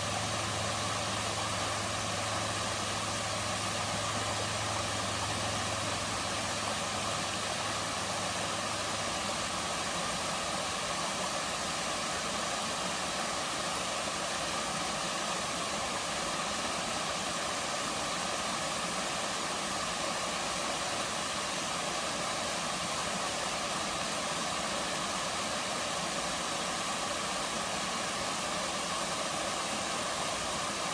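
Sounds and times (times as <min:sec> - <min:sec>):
waterfall into pools: 0:00.0 - 0:30.9.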